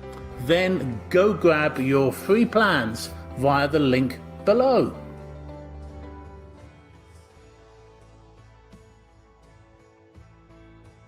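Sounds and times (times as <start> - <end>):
quiet guitar background music: 0.0 - 11.0.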